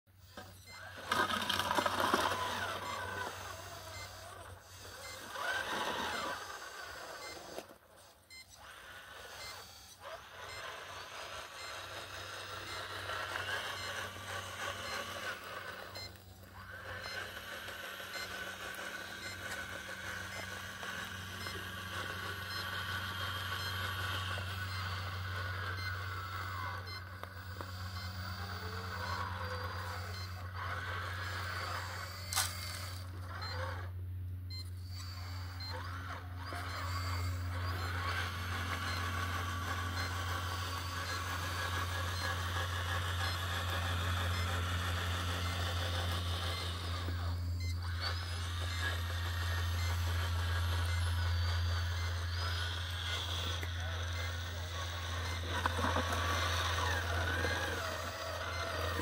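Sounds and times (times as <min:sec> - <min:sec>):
electric motors whining: 0:00.1 - 0:59.0
steady low hum: 0:00.1 - 0:59.0
reversing beeps: 0:00.2 - 0:59.0.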